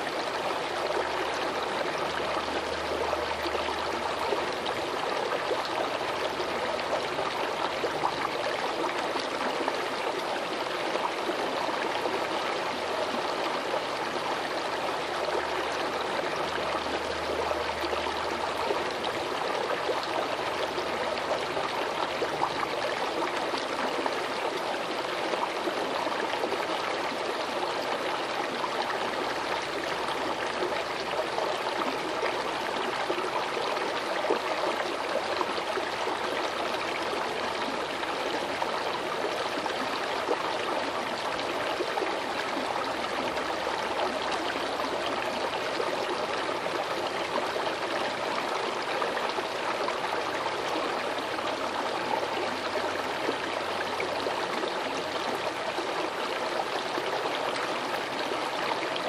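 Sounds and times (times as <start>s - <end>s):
small stream flowing: 0.0s - 59.0s.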